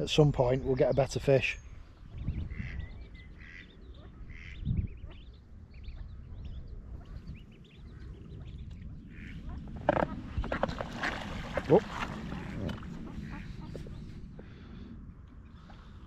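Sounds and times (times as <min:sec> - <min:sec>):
ducks calling: 0:00.9 - 0:06.1, 0:06.9 - 0:14.8.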